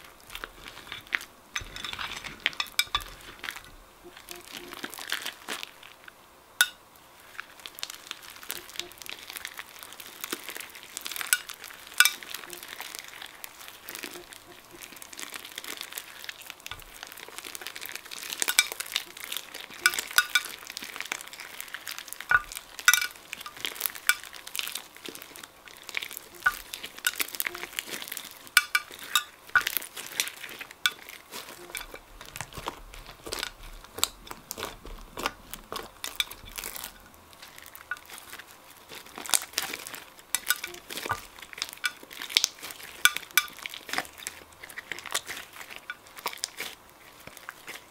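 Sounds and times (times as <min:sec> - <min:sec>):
hands squishing sticky slime: 0:06.6 - 0:47.9.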